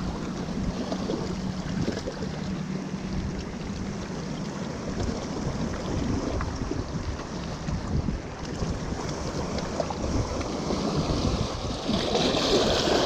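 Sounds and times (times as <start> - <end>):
wind on microphone: 0.0 - 4.2, 4.8 - 13.0
sea waves: 0.0 - 13.0.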